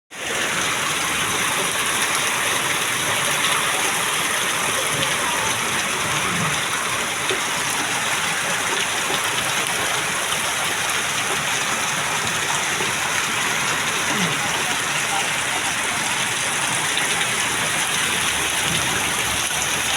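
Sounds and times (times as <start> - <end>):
heavy rain splashing on hard surfaces: 0.1 - 19.9.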